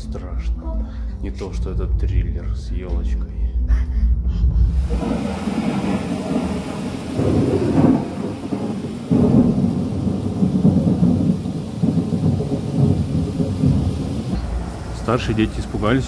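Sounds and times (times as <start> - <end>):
rumbling thunder: 0.0 - 3.6, 4.6 - 16.0
rain hissing: 0.0 - 16.0.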